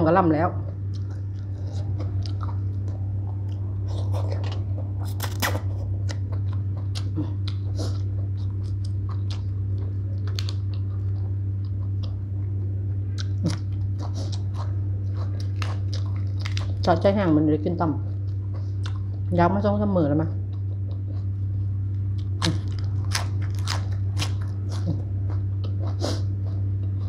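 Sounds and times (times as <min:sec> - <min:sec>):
steady low hum: 0:00.0 - 0:27.0
person chewing crunchy food: 0:00.6 - 0:17.0, 0:18.0 - 0:19.3, 0:20.4 - 0:27.0.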